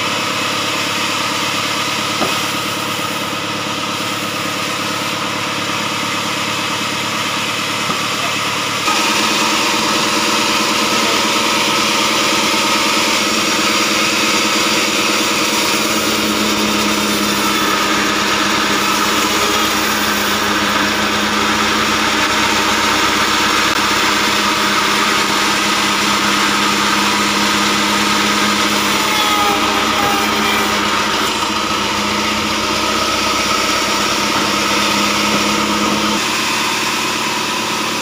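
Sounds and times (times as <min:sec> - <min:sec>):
band sawmill cutting log: 0:00.0 - 0:38.0.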